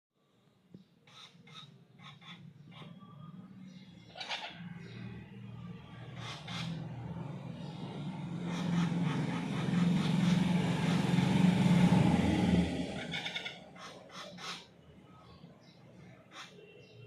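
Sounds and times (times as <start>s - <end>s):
motor vehicle passing by: 2.2s - 16.5s.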